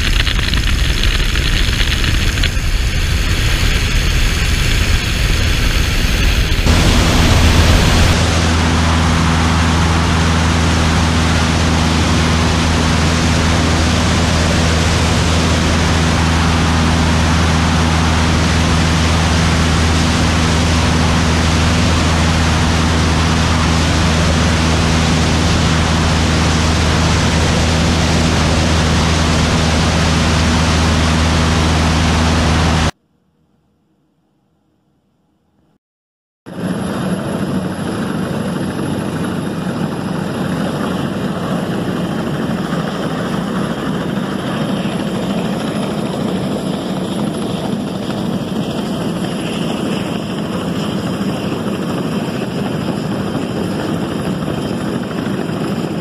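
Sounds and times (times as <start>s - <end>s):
wind rush: 0.0s - 32.9s, 36.5s - 56.0s
airplane engine drone: 0.0s - 33.0s, 36.5s - 56.0s.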